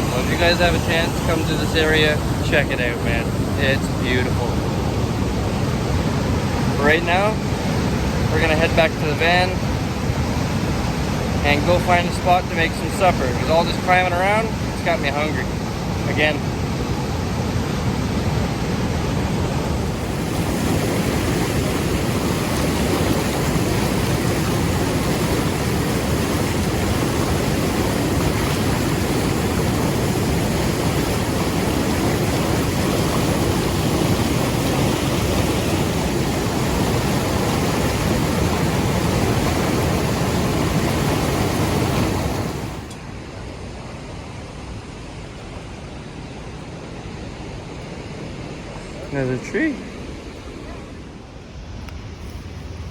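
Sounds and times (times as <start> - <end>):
waterfall roaring: 0.0 - 51.4.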